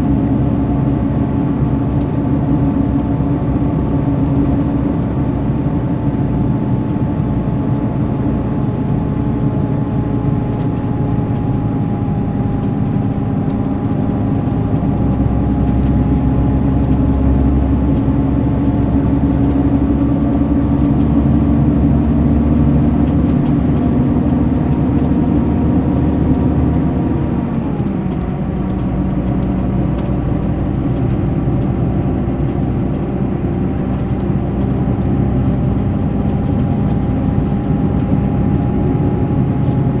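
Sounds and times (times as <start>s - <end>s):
coach diesel engine running: 0.0s - 40.0s.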